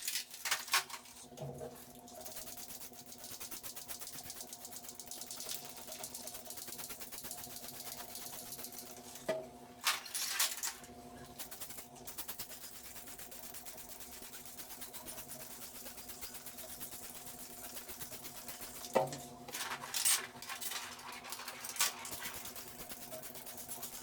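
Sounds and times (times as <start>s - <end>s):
small motor rattling: 2.0s - 9.0s, 10.1s - 24.0s.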